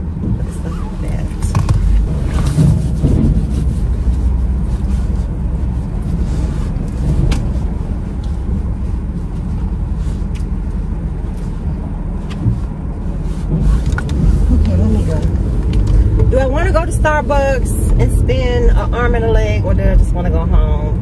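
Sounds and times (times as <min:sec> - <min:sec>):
car engine rumble: 0:00.0 - 0:21.0.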